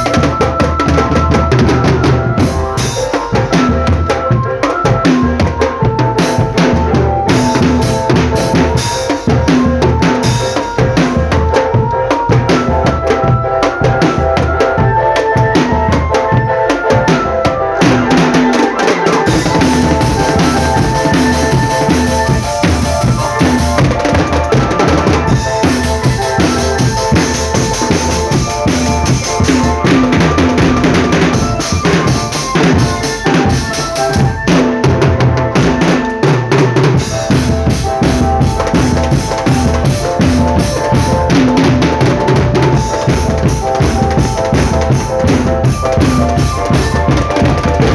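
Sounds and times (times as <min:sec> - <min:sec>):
marching drum band: 0:00.0 - 0:47.9
melody of held notes: 0:00.0 - 0:47.9.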